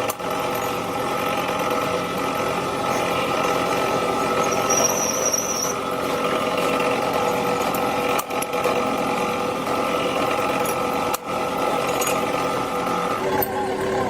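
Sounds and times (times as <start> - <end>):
machine tool whining: 0.0 - 14.0.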